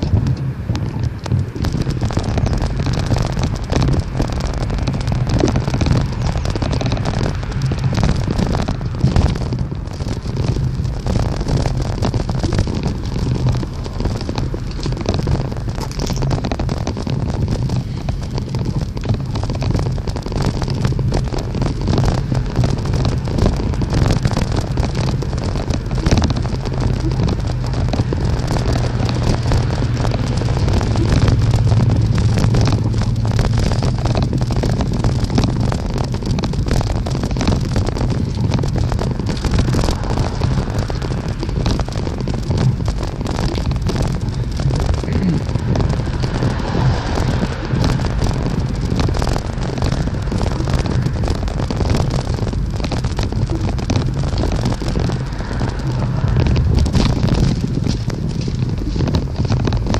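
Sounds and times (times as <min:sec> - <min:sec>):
small rattles and crackles: 0:00.0 - 0:59.9
wind rumble on microphone: 0:00.0 - 0:59.9.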